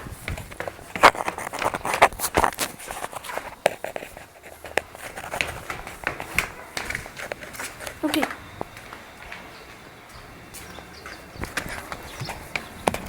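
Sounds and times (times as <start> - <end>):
footsteps: 0.0 - 13.0
handling knocks and rustling: 0.0 - 13.0.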